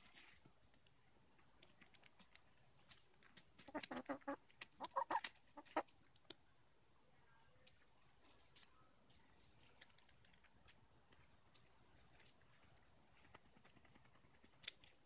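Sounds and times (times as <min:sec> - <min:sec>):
hens pecking seeds: 0:00.0 - 0:15.0.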